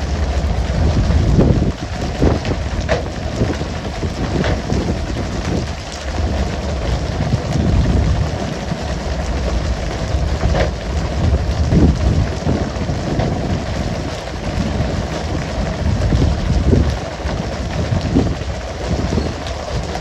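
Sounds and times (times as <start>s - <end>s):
low rumble: 0.0s - 20.0s
water spraying onto sea: 0.0s - 20.0s.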